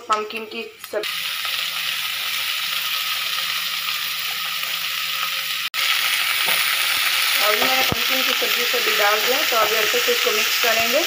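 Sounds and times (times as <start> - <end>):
pumpkin sizzling in oil: 0.8 - 11.0.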